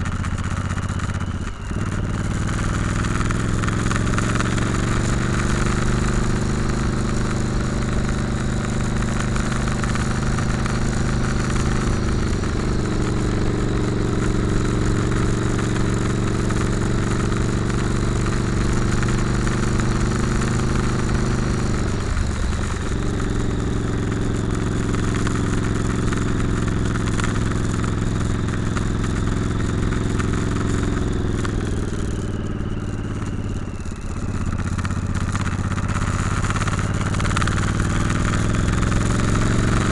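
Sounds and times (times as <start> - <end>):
motorcycle engine running: 0.0 - 39.9
rush of noise: 0.0 - 39.9.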